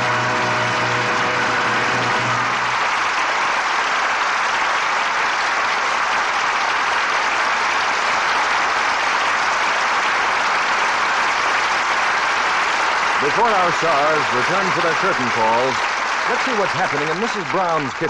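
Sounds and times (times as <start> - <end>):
studio audience applauding: 0.0 - 18.0.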